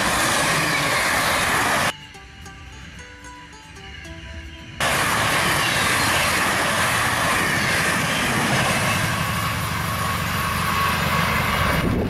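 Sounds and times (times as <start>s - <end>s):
electric train passing at speed: 0.0s - 12.0s.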